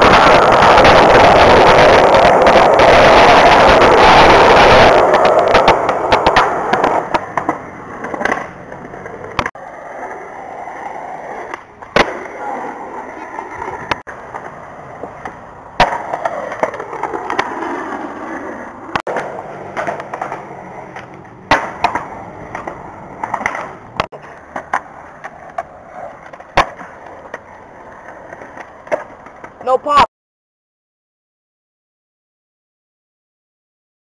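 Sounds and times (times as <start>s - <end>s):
skateboard wheels rolling on concrete: 0.0s - 30.1s
skateboard clacking on ground: 0.1s - 10.2s, 11.2s - 30.0s.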